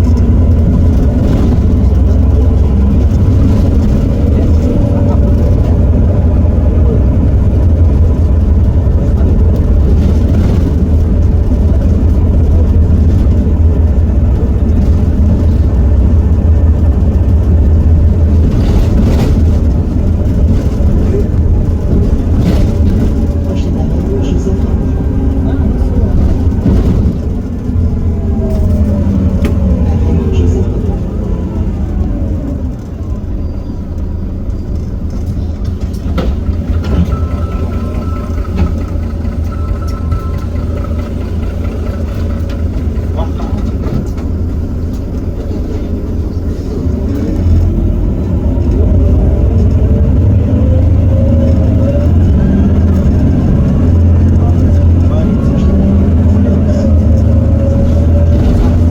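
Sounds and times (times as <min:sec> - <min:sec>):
bus diesel engine humming: 0:00.0 - 0:58.9.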